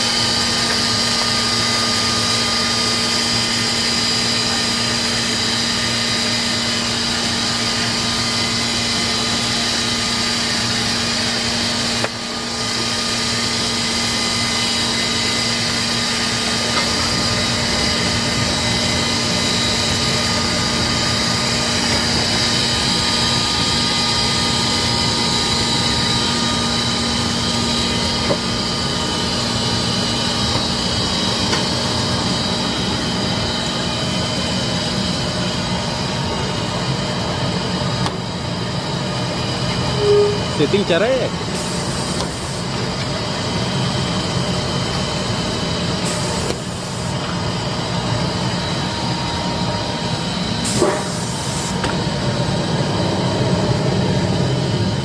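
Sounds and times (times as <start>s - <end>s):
laminating machine running: 0.0s - 55.0s.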